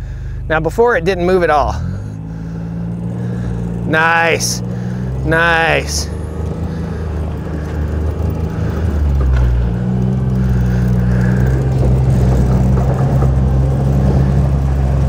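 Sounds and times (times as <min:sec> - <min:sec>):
utility vehicle engine under throttle: 0:00.0 - 0:15.0.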